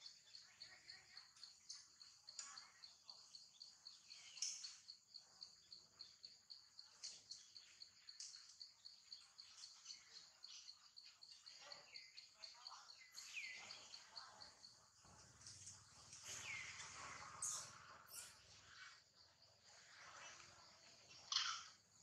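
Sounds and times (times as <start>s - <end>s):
pulsing insect chorus: 0.0s - 22.0s.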